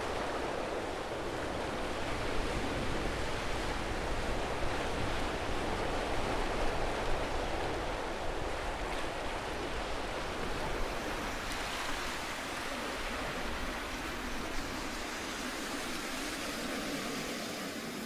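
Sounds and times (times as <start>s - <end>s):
sea surf breaking on beach: 0.0s - 18.0s.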